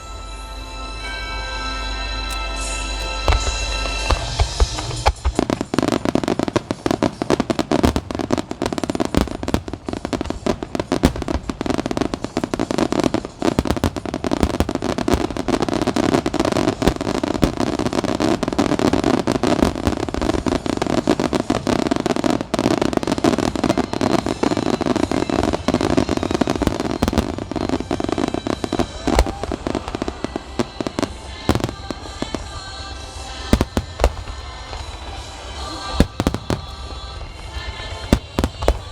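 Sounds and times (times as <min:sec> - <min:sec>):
fireworks bursting and crackling: 0:00.0 - 0:38.9
music playing: 0:00.0 - 0:38.9.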